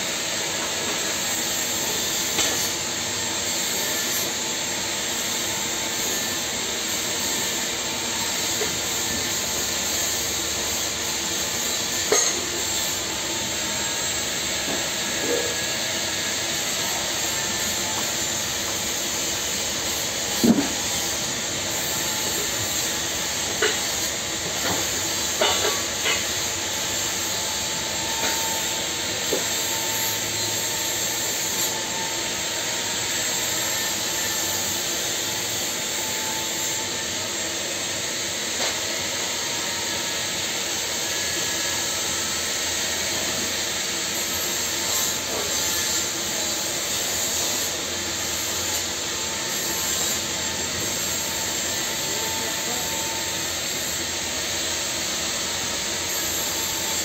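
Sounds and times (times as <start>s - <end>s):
welding arc hiss: 0.0s - 57.0s.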